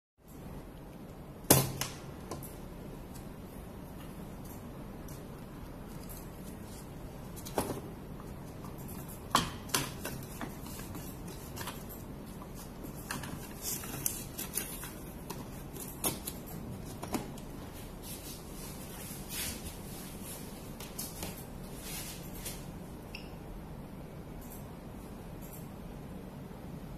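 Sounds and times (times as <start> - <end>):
steady low hum: 0.2 - 26.9.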